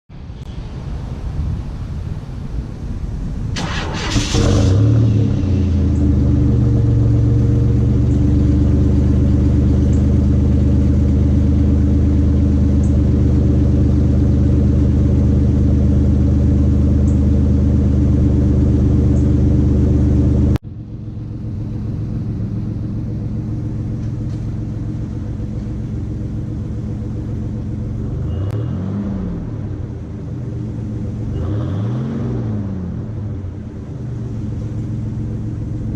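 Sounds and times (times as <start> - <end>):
truck engine idling: 2.9 - 28.6, 29.2 - 31.5, 32.5 - 35.9
engine revs: 3.6 - 20.6, 21.2 - 35.9.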